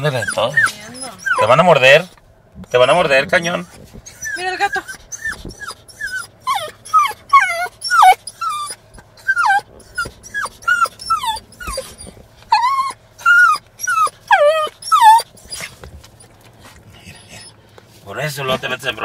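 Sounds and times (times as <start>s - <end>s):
dog whining and yelping: 0.0s - 2.1s, 3.5s - 17.6s.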